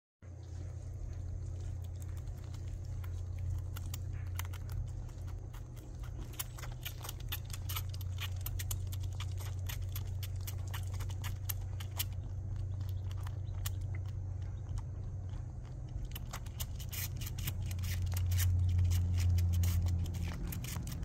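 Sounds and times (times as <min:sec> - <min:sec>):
steady low hum: 0:00.2 - 0:21.0
squirrel suckling wet clicks: 0:00.3 - 0:21.0.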